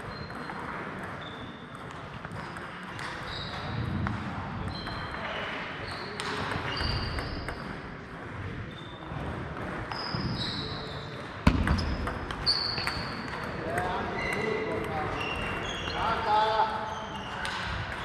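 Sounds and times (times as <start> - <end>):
table tennis balls clicking: 0.0 - 10.4, 11.1 - 15.9.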